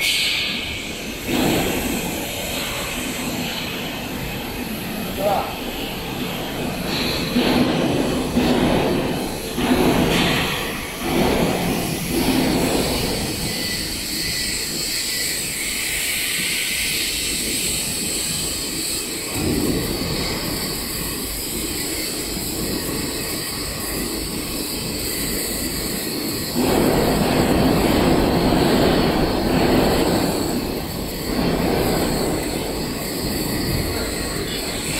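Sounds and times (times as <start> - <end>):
workshop machinery noise: 0.0 - 34.9.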